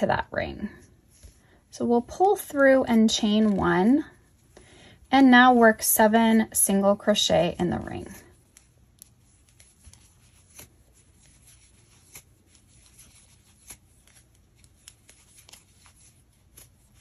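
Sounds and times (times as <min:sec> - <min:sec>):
yarn rustling: 0:00.0 - 0:17.0.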